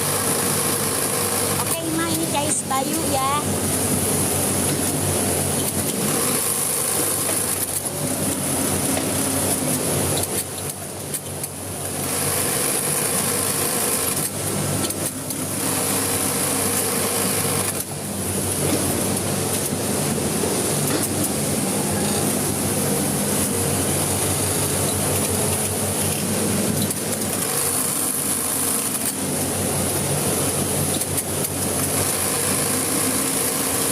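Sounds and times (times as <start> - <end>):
sewing machine running: 0.0 - 10.8, 11.6 - 33.9.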